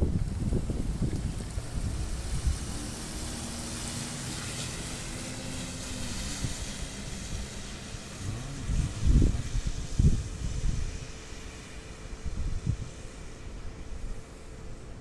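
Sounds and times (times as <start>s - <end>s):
car engine hum: 0.0s - 15.0s
tyres hissing on wet pavement: 0.1s - 15.0s.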